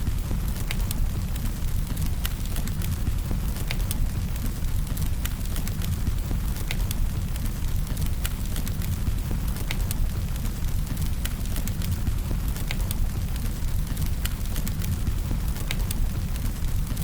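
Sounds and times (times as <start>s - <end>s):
fire crackles and pops: 0.0s - 17.0s
low rumble of flames: 0.0s - 17.0s.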